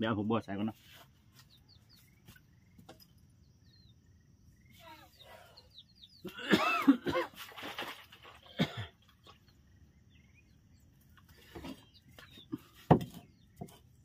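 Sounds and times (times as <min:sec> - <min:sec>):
faint high bird chirps: 0:00.0 - 0:06.4, 0:09.0 - 0:14.0.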